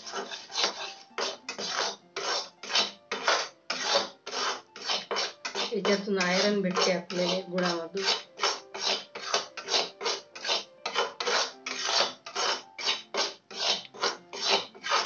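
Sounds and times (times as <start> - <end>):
metal spatula scraping a pan: 0.0 - 15.0.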